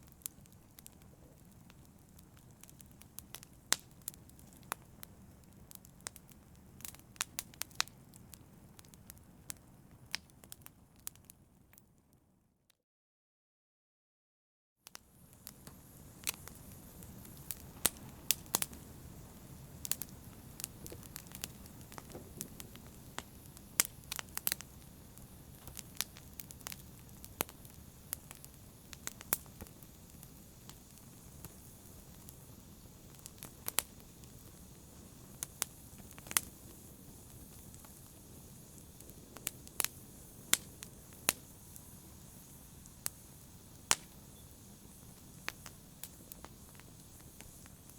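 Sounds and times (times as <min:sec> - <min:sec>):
flames rumbling: 0:00.0 - 0:10.3, 0:15.1 - 0:47.9
fire pops and snaps: 0:00.0 - 0:11.8, 0:14.9 - 0:47.9.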